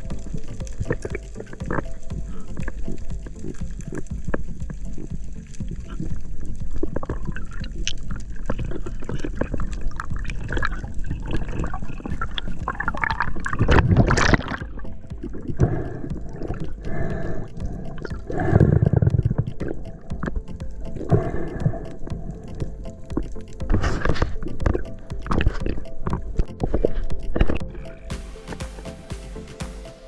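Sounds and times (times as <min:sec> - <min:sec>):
water sloshing and gurgling: 0:00.0 - 0:29.5
sharp clicks: 0:00.0 - 0:29.6.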